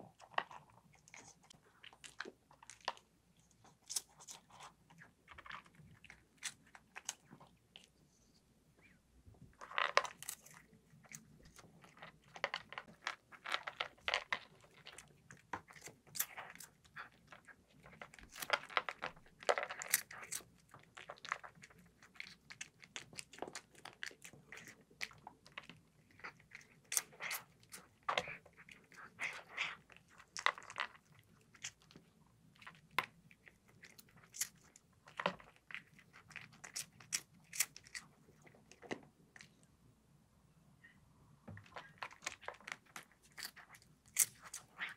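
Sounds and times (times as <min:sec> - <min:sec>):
cat crunching dry food: 0:00.0 - 0:07.8, 0:09.5 - 0:39.6, 0:41.6 - 0:44.9.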